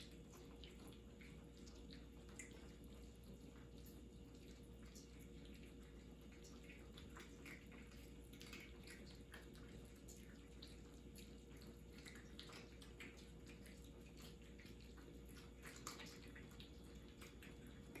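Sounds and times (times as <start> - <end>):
cats chewing and licking: 0.0 - 18.0
faint steady hum: 0.0 - 18.0.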